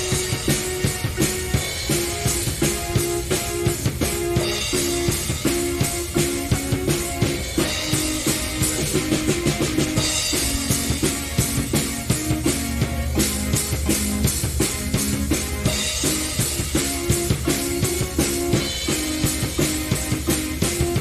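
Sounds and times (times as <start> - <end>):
keyboard playing held notes: 0.0 - 21.0
rock drum beat: 0.0 - 21.0.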